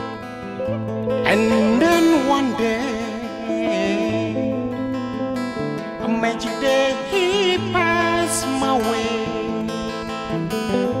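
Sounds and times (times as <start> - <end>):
electric guitar lead: 0.0 - 11.0
strummed acoustic guitar: 0.0 - 11.0.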